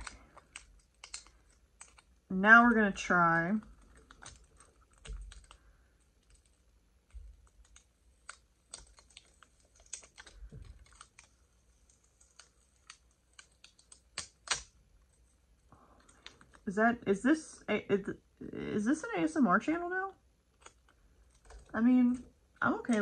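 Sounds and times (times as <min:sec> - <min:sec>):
plastic sticker peeling crinkles: 0:00.0 - 0:16.7, 0:20.5 - 0:23.0.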